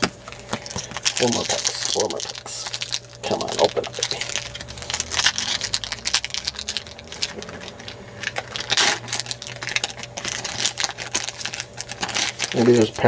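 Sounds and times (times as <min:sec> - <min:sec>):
card pack wrapper crackling: 0:00.0 - 0:13.0
wrapper rustling: 0:00.0 - 0:13.0.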